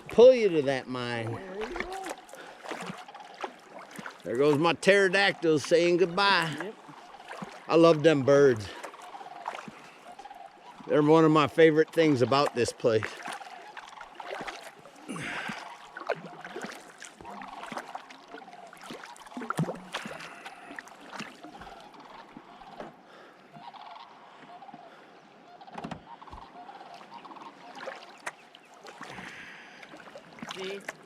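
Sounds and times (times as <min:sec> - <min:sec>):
paddle blades splashing: 0:00.0 - 0:31.0
water lapping at hull: 0:00.0 - 0:31.0.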